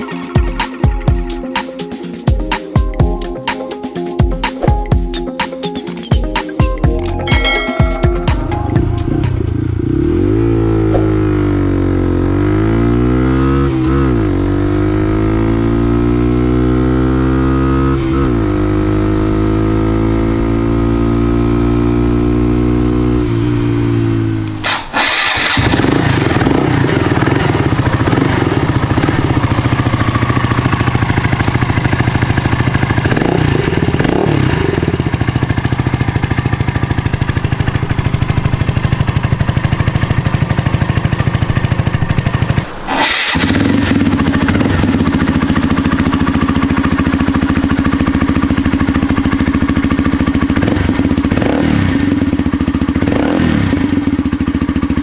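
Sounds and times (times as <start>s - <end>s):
motorcycle engine revving: 8.8s - 55.0s.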